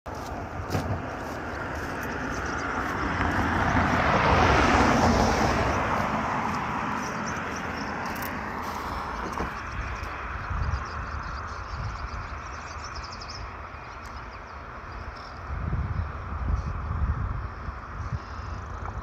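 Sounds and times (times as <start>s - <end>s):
road vehicle passing: 0.1s - 19.0s.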